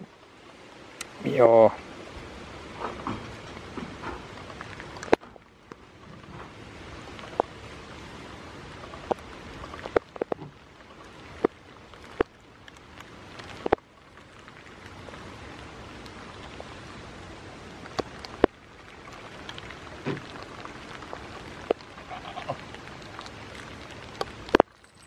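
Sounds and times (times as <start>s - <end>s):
steady rain hiss: 0.0s - 25.0s
raindrops tapping a surface: 2.0s - 25.0s.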